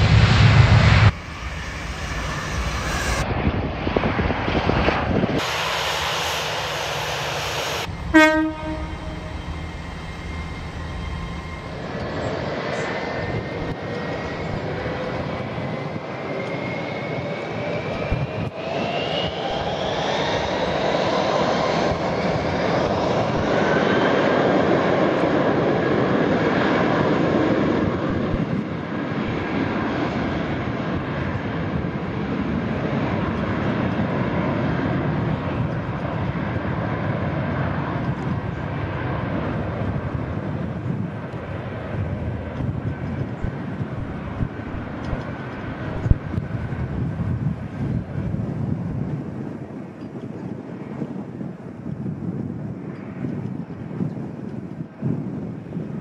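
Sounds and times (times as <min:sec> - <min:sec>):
jet engines whining: 0:00.0 - 0:49.8.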